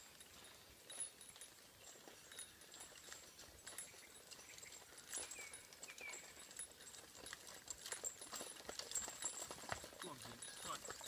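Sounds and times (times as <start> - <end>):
hoofbeats on dirt track: 0.0 - 11.0.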